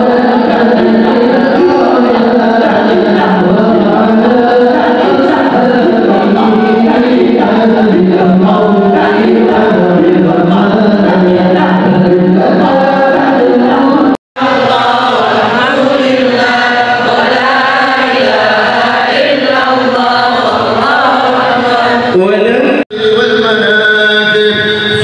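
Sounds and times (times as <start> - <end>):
voices chanting a prayer: 0.0 - 25.0.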